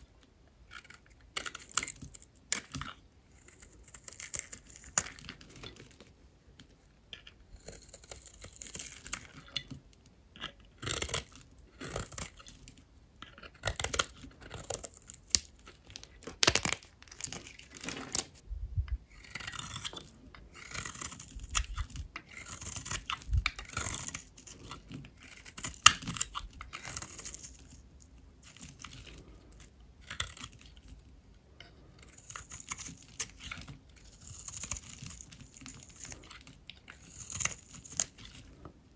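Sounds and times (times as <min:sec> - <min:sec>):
knife cutting dry soap: 0:00.7 - 0:06.2, 0:07.1 - 0:18.4, 0:19.1 - 0:27.8, 0:31.6 - 0:38.9.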